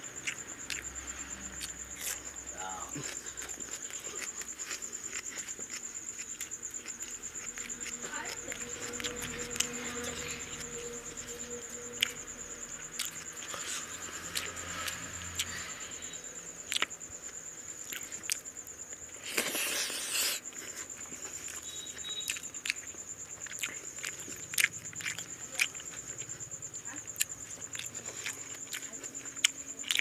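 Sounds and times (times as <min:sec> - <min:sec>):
insect trill: 0:00.0 - 0:30.0.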